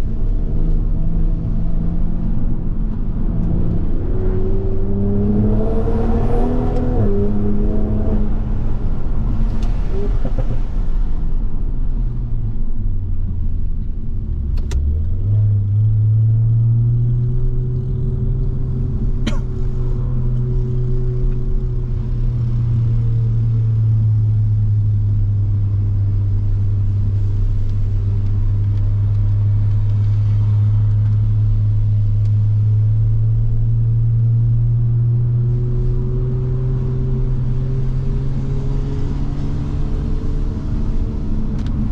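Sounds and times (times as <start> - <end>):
car engine from inside: 0.0 - 41.9.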